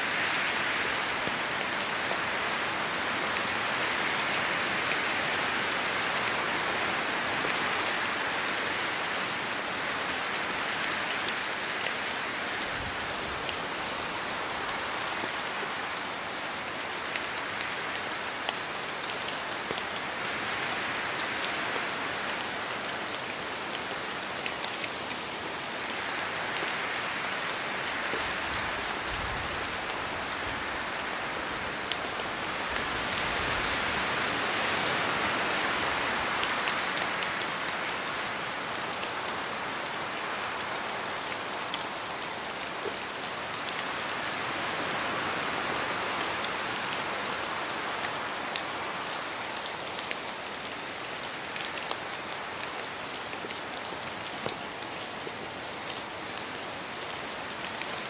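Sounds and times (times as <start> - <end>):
rain falling in a forest: 0.0 - 58.0.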